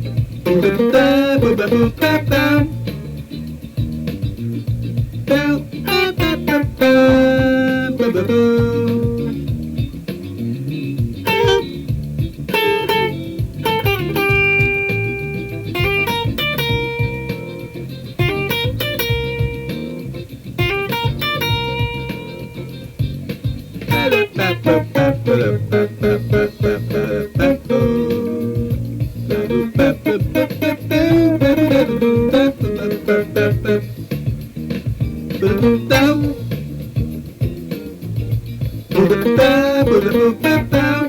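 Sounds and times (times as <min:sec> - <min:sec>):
funk guitar melody: 0:00.0 - 0:41.0
rhythmic bass groove: 0:00.0 - 0:41.0.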